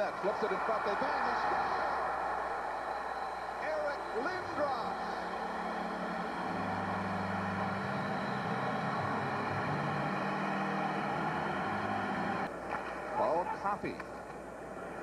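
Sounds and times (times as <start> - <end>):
arena crowd cheering: 0.0 - 12.5.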